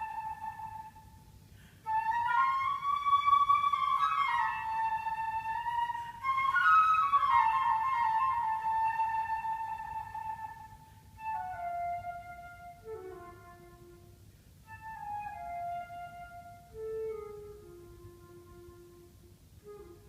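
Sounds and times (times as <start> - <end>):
flute playing long notes: 0.0 - 20.0.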